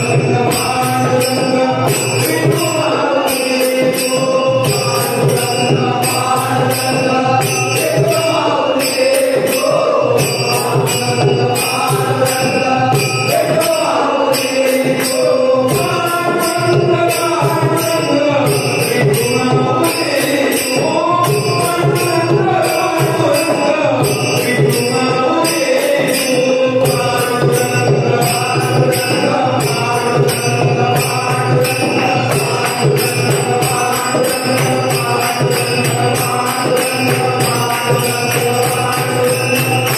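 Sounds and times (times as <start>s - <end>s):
hand cymbals jingling: 0.0s - 39.9s
man singing devotional song: 0.0s - 39.9s.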